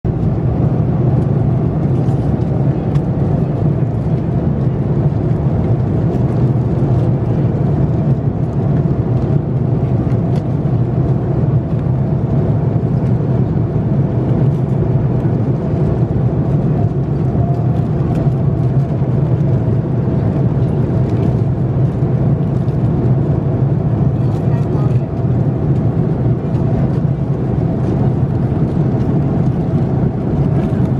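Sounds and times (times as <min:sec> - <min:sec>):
airliner cabin engine rumble: 0:00.0 - 0:30.9.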